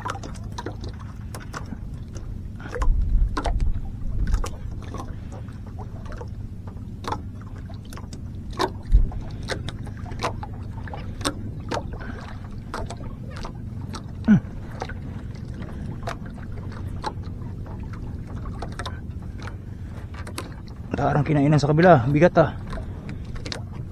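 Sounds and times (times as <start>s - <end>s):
boat low hum: 0.0s - 23.9s.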